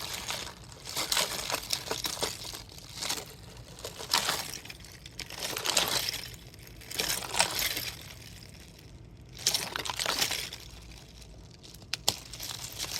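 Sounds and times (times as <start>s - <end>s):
plastic bottle crinkling: 0.0s - 12.9s.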